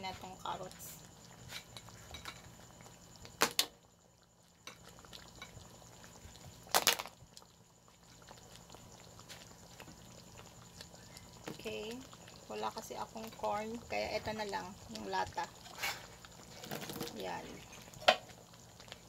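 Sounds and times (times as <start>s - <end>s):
thick sauce bubbling: 0.0s - 19.0s.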